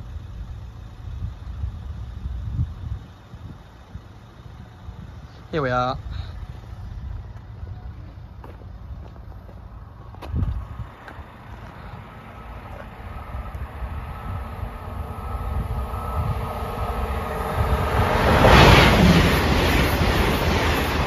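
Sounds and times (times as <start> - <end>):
faint steady whine: 0.0 - 18.6
train approaching at speed: 0.0 - 21.0.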